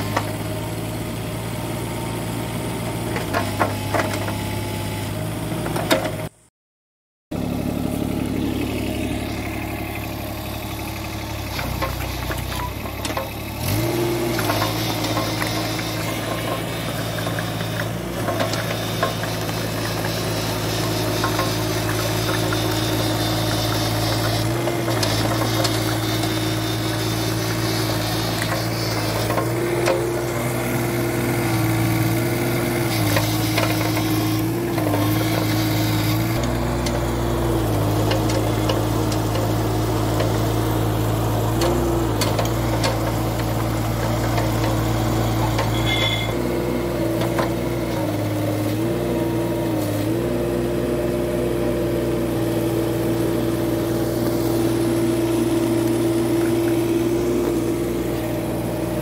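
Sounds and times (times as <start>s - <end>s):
excavator engine running: 0.0s - 6.5s, 7.3s - 59.0s.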